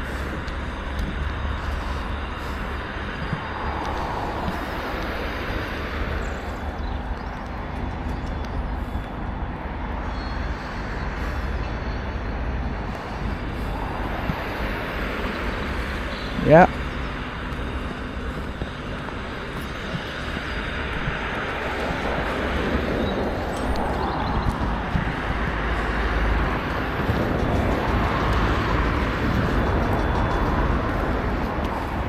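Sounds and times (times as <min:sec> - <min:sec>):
car passing: 0:00.0 - 0:32.0
road traffic rumble: 0:00.0 - 0:32.0.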